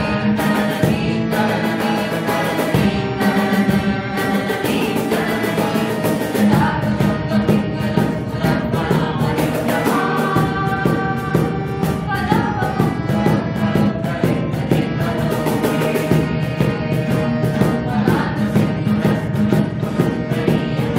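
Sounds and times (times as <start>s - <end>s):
acoustic guitar: 0.0s - 20.9s
group of young voices singing: 0.0s - 20.9s
harmonium: 0.0s - 20.9s
steady percussion beat: 0.0s - 20.9s.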